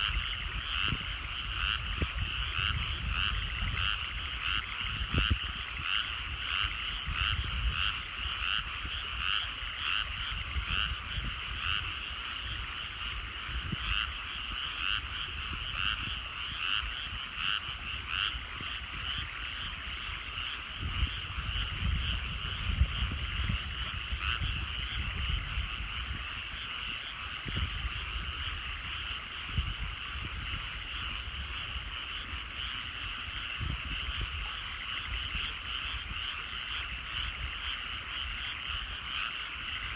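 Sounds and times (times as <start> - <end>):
frog chorus: 0.0 - 39.9
rapid frog calls: 0.0 - 39.9.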